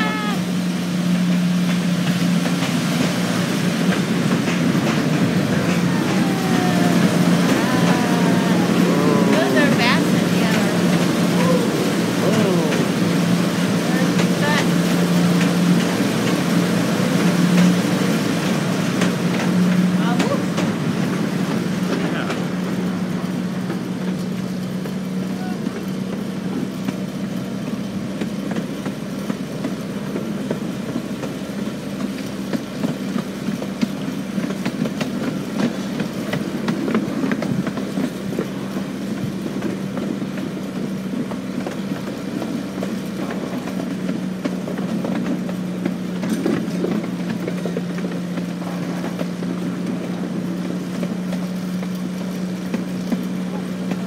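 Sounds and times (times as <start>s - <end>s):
locomotive humming: 0.0s - 54.0s
train wheels clicking on track: 0.0s - 54.0s.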